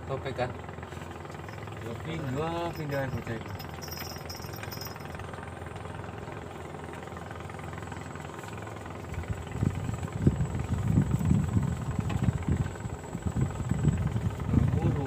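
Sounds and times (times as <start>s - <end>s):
small engine idling: 0.0s - 15.0s
uneven low rumbling: 1.5s - 15.0s.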